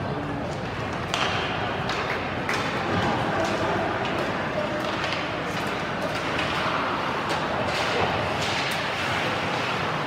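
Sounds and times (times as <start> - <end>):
hockey sticks clacking on puck: 0.4 - 10.0.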